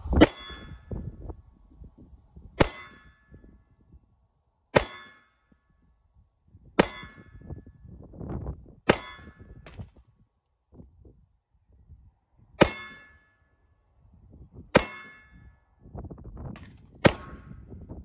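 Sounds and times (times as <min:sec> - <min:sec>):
wind rumble on microphone: 0:00.0 - 0:04.4, 0:05.5 - 0:18.0.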